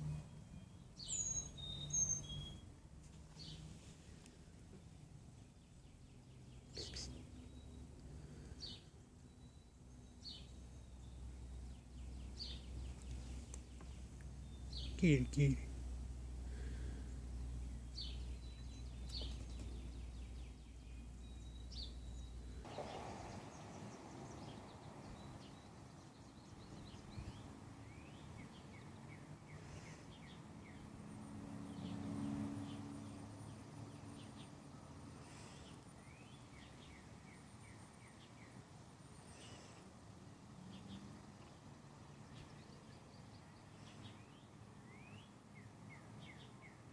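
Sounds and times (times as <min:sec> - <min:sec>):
faint bird chirps: 0:00.0 - 0:15.8, 0:16.5 - 0:30.9, 0:32.6 - 0:41.6, 0:42.2 - 0:46.9.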